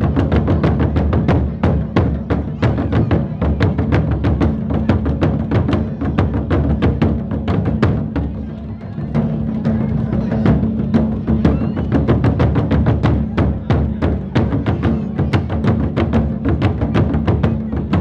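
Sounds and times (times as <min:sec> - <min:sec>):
taiko drums: 0:00.0 - 0:18.0.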